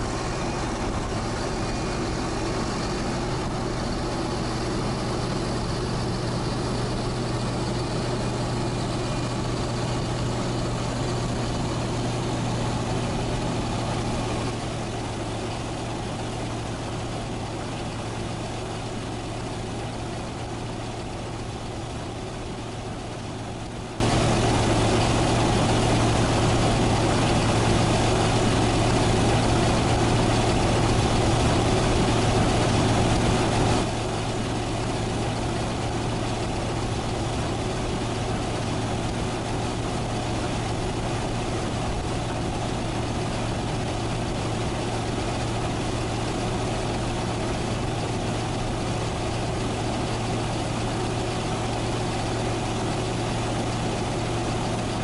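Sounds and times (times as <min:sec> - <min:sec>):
diesel engines droning: 0:00.0 - 0:55.0.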